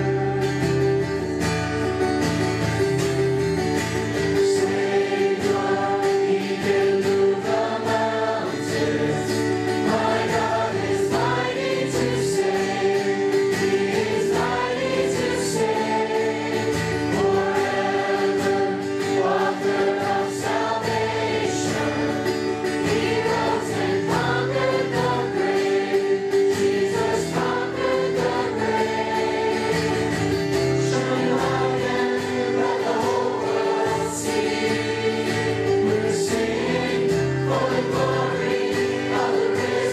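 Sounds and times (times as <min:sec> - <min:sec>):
choir singing gospel song: 0:00.0 - 0:01.0, 0:03.9 - 0:39.9.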